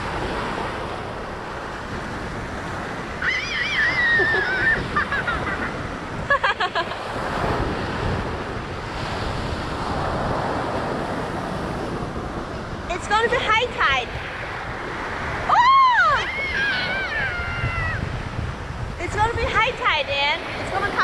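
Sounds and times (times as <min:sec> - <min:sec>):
ocean surf washing onto beach: 0:00.0 - 0:21.0
wind on microphone: 0:00.0 - 0:21.0.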